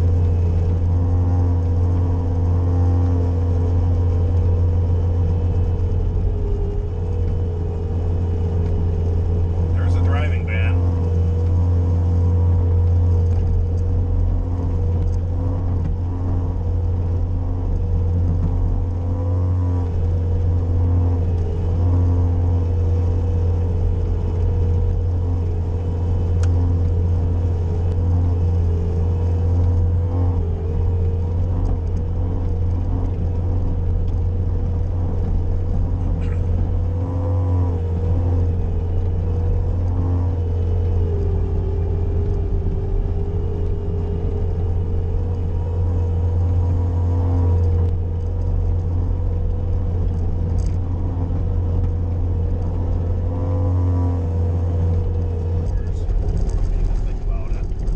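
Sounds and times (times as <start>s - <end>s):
diesel engine under load: 0.0s - 57.9s
steady whine: 0.0s - 57.9s.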